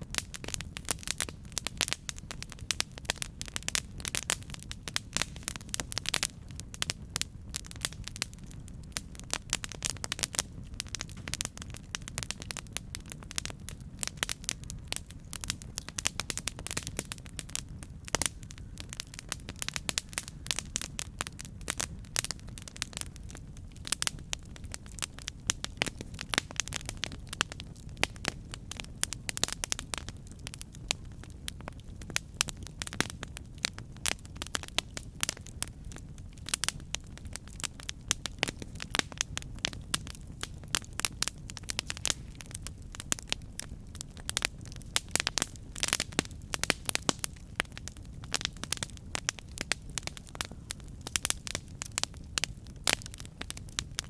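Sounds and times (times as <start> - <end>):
low rumble of flame: 0.0 - 54.0
wood crackling and popping: 0.0 - 54.0.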